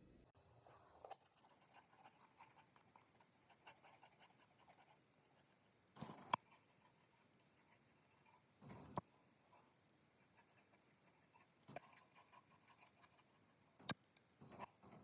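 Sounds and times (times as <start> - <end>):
faint scratching on knife blade: 0.8 - 15.0.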